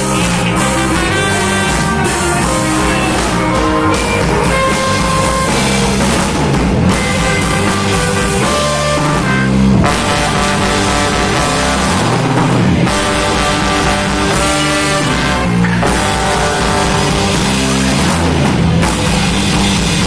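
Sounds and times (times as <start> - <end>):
reggae band music: 0.0 - 20.0.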